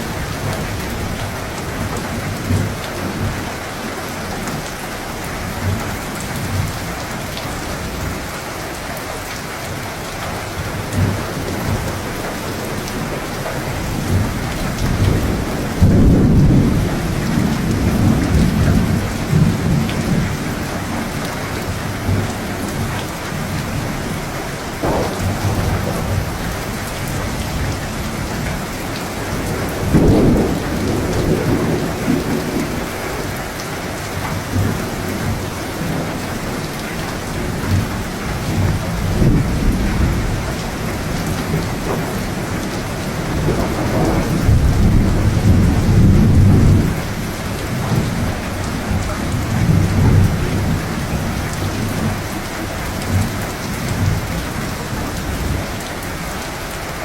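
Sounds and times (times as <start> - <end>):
steady rain falling: 0.0 - 57.0
rolling thunder: 10.6 - 56.2.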